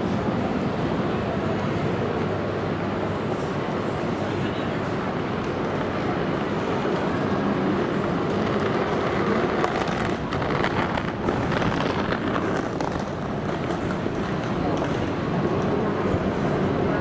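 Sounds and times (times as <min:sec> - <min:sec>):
traffic: 0:00.0 - 0:17.0.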